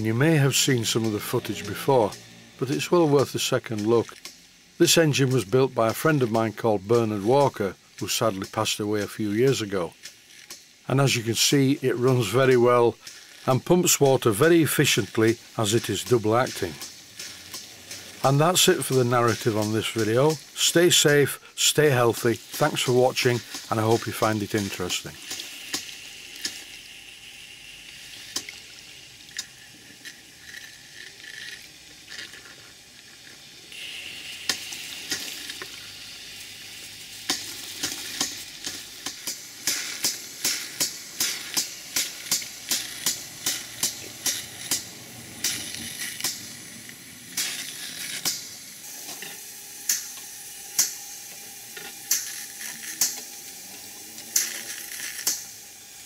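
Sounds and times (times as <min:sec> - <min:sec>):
steam hissing: 0:00.0 - 0:56.0
steam pump clicking: 0:00.0 - 0:56.0.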